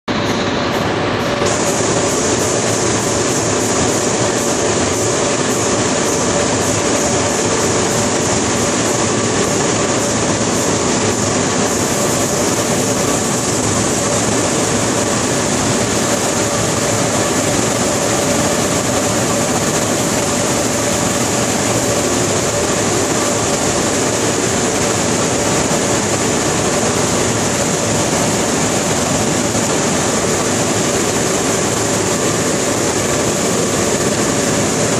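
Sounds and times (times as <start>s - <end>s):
faint machinery hum: 0.1s - 34.9s.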